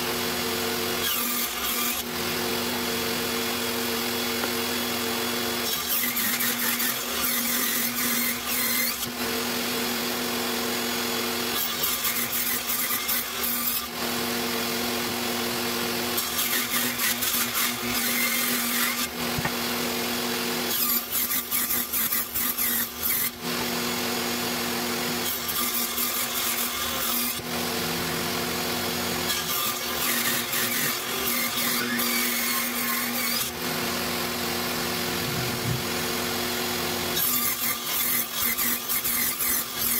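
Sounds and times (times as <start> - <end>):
saw motor hum: 0.0 - 39.9
table saw cutting wood: 0.0 - 39.9.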